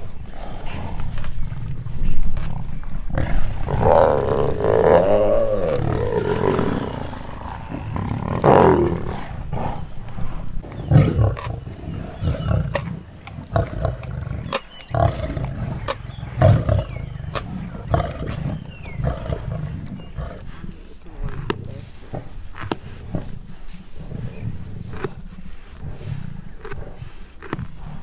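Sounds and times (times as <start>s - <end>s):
lions snarling and growling: 0.0s - 28.0s.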